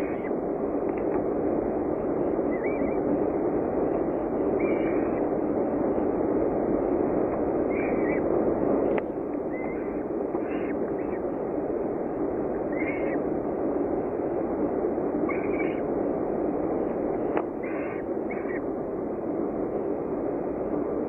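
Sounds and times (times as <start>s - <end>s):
rushing background noise: 0.0s - 21.0s.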